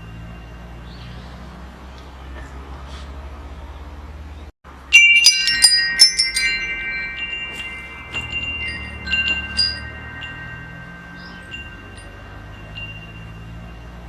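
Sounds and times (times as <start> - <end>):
wind chimes ringing: 0.0 - 2.6, 4.7 - 14.0.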